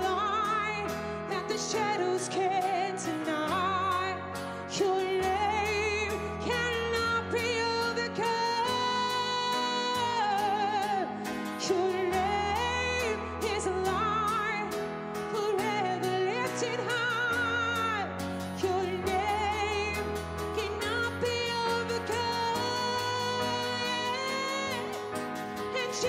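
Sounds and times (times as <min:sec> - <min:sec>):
person singing with vibrato: 0:00.0 - 0:26.0
worship band playing: 0:00.0 - 0:26.0.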